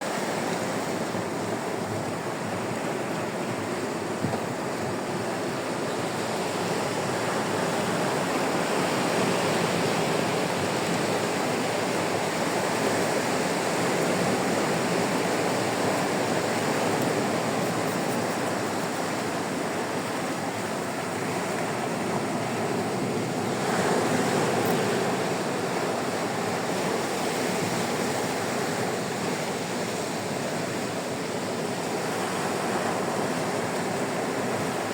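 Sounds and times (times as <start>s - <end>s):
waves washing onto beach: 0.0s - 34.9s.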